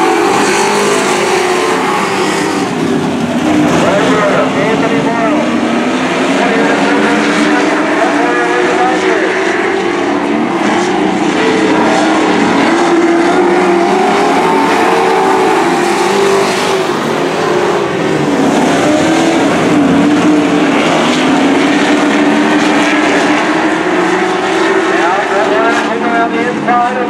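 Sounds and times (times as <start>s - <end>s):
racing truck engines: 0.0s - 27.0s.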